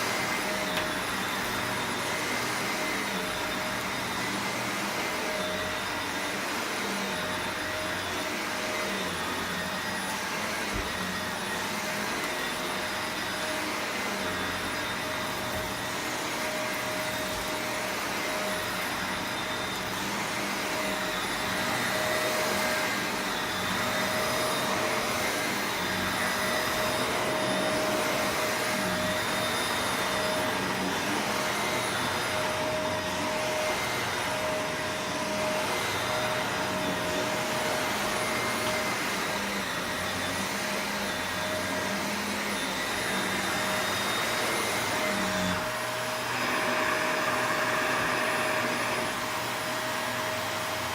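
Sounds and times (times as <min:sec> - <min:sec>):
upright vacuum cleaner running: 0:00.0 - 0:50.9.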